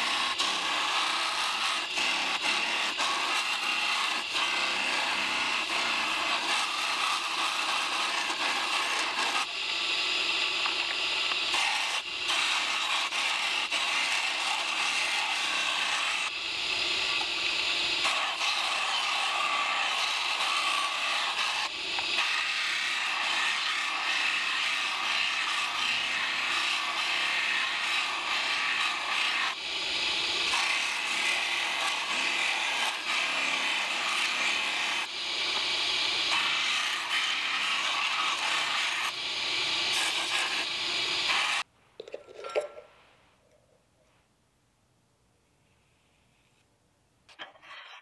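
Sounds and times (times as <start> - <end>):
belt grinder grinding steel: 0.0 - 41.7.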